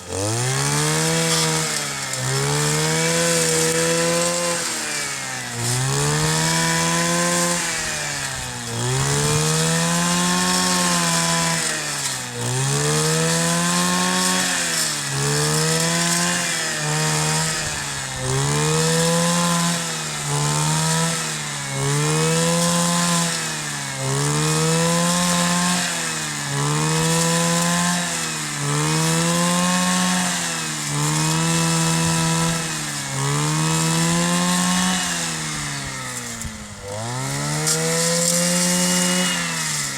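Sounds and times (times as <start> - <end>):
brush cutter engine revving: 0.0 - 39.9.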